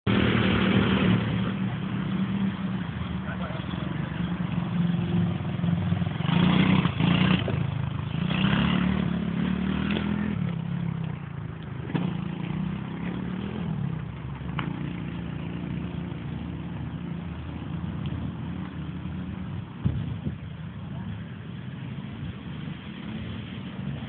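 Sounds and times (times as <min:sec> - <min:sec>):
quad bike engine revving: 0:00.1 - 0:20.3.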